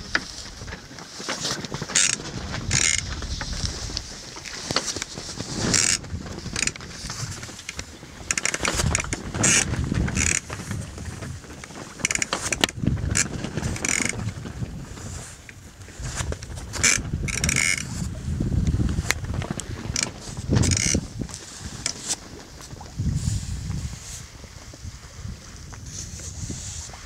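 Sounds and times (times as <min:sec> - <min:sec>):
rigging creaks and clicks: 0:00.0 - 0:22.2
wind rumble on microphone: 0:00.0 - 0:27.0.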